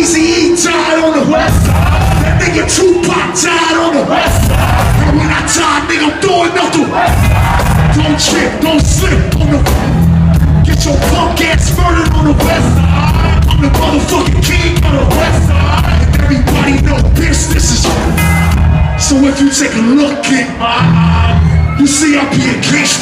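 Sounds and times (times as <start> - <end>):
live hip hop music: 0.0 - 23.0.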